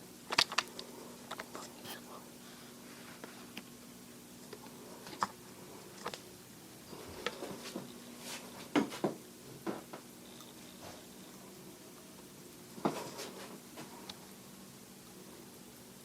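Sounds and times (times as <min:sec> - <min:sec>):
low electric hum: 0:00.0 - 0:16.0.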